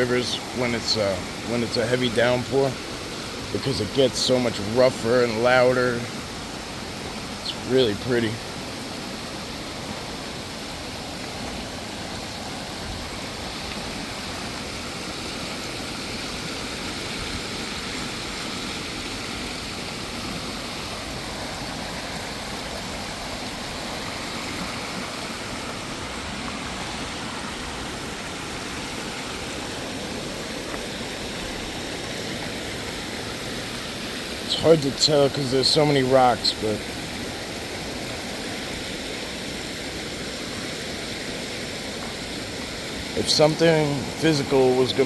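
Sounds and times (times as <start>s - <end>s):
creek rushing over rocks: 0.0s - 45.0s.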